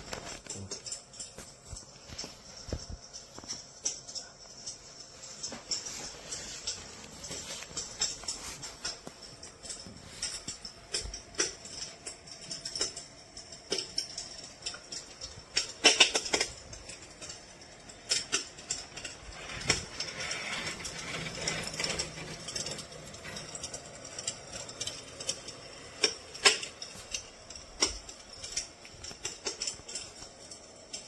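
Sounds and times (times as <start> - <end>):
simulated fire crackling: 0.0 - 31.0.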